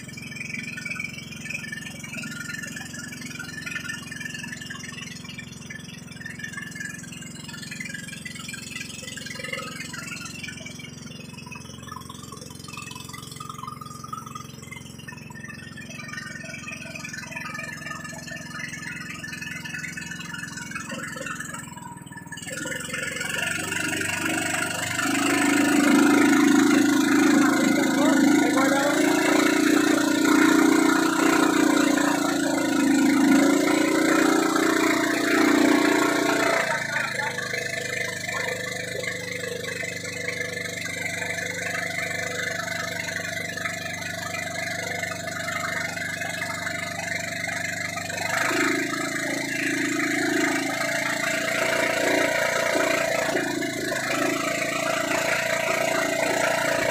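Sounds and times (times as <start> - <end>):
boat engine running: 0.0 - 56.9.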